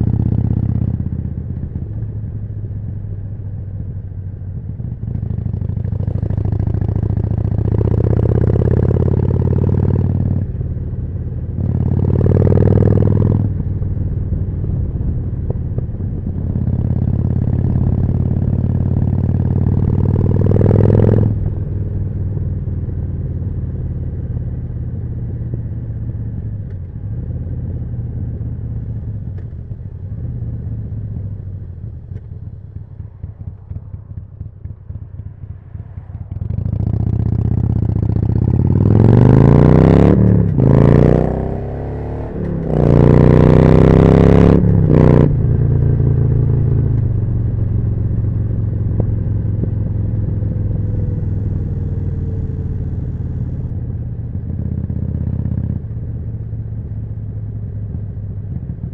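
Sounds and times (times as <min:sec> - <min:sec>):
motorcycle accelerating: 0:00.0 - 0:58.9
motorcycle engine running: 0:00.0 - 0:58.9.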